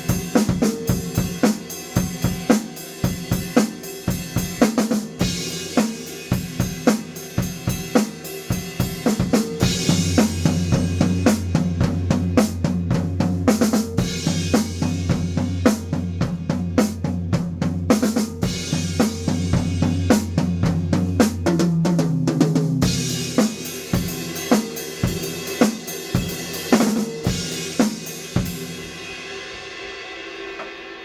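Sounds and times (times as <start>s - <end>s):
drum kit groove: 0.0s - 31.0s.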